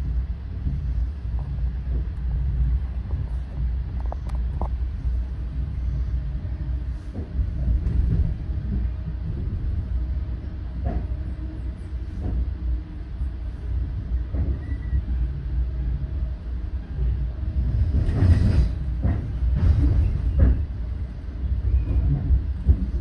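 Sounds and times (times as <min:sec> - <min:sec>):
train coach rumbling on rails: 0:00.0 - 0:23.0.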